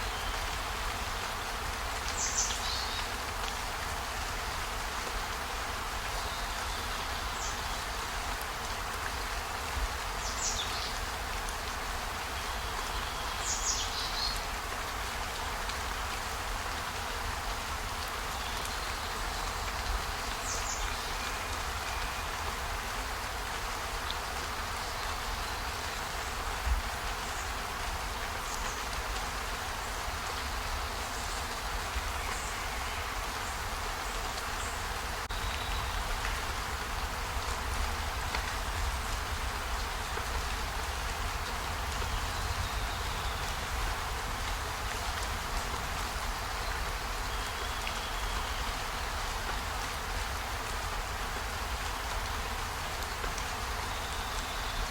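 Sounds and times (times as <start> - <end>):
rain-like hiss: 0.0 - 54.9.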